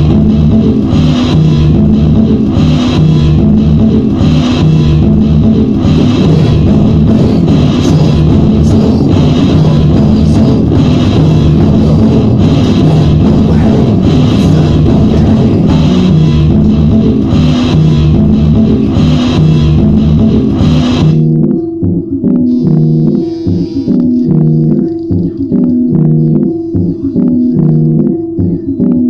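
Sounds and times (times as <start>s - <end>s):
low held tones: 0.0s - 29.0s
rock music with guitar and drums: 0.0s - 29.0s.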